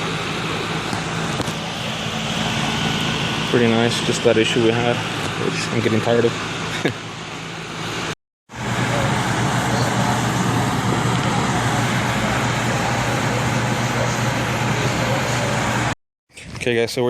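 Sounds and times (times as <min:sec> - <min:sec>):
electrical hum: 0:00.0 - 0:16.0
fan and airflow rush: 0:00.0 - 0:16.0.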